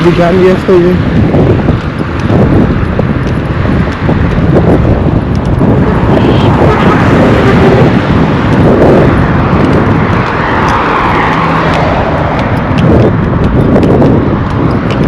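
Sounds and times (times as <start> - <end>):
engine hum: 0.0 - 15.0
motor vehicles driving past: 0.0 - 15.0.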